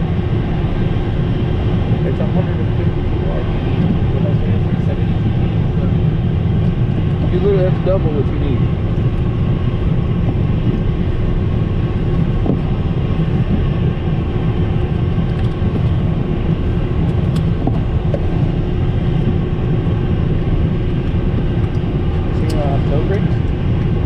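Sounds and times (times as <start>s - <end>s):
faint engine tones: 0.0s - 24.0s
jet cockpit low rumble: 0.0s - 24.0s.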